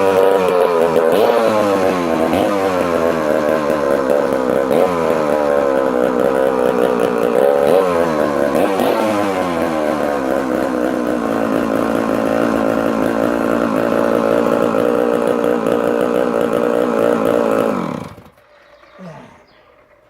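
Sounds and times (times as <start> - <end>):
chainsaw engine running: 0.0 - 20.0.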